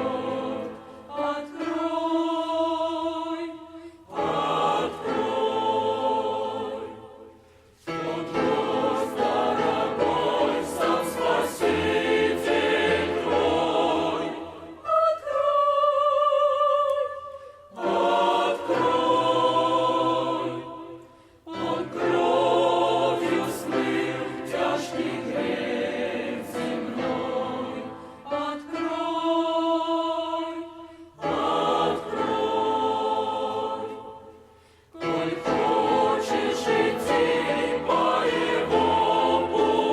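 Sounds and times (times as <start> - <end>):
church choir singing a hymn: 0.0 - 39.9.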